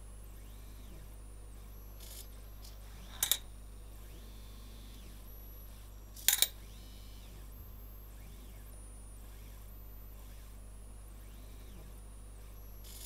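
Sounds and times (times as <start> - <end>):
stepper motors whining: 0.4 - 13.0.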